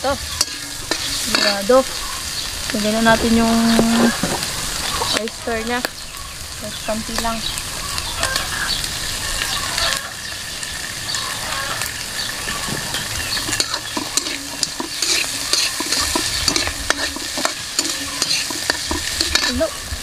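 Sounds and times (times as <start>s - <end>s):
food sizzling in a hot pan: 0.0s - 20.0s.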